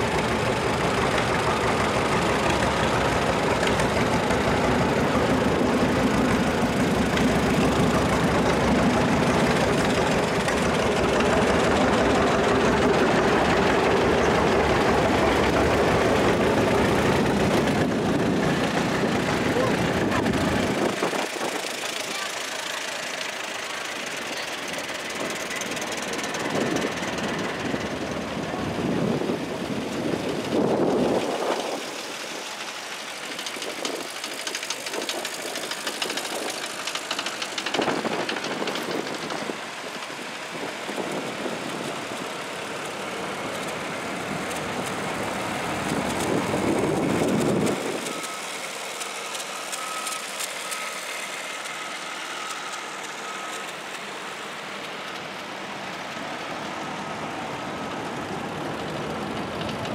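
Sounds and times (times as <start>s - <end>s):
tractor engines passing: 0.0s - 59.9s.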